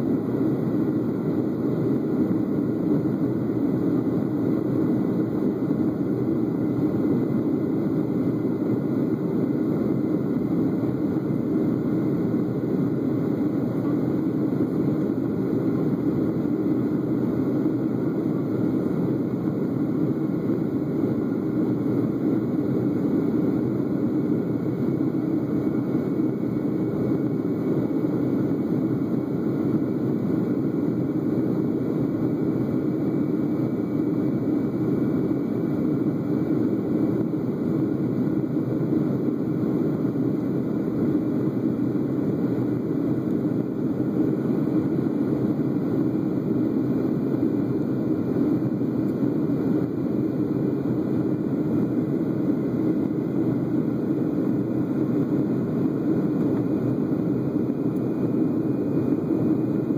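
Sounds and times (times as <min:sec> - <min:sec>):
airliner cabin engine hum: 0:00.0 - 0:59.9.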